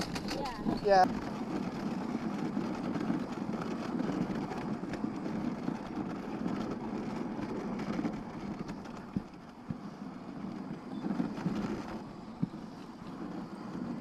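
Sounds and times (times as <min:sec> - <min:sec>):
sled runners rushing over snow: 0:00.0 - 0:14.0
wind on microphone: 0:00.0 - 0:14.0.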